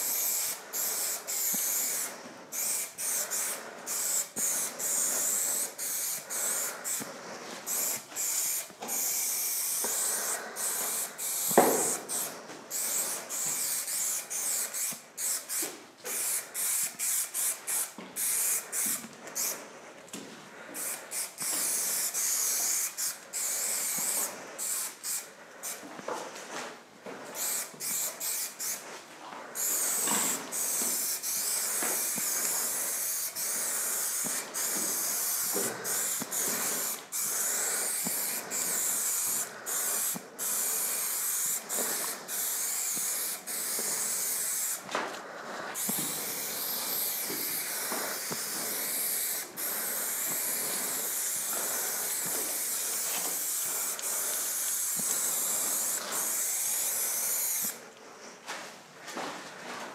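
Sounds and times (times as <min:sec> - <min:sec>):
spray-paint can hissing: 0:00.0 - 0:19.6, 0:20.8 - 0:25.8, 0:27.4 - 0:28.8, 0:29.6 - 0:44.9, 0:45.7 - 0:57.8.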